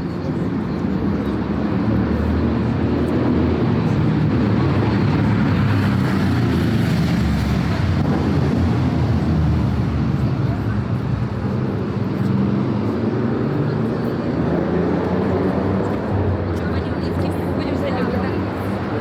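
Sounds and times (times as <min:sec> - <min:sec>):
city street traffic rumble: 0:00.0 - 0:19.0.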